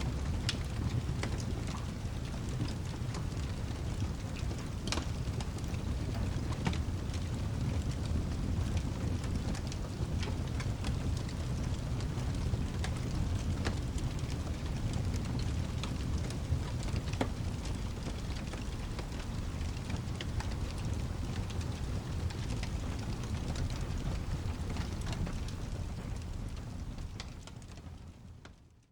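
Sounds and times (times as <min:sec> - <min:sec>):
wood fire crackling: 0:00.0 - 0:28.8
rain: 0:00.0 - 0:28.9.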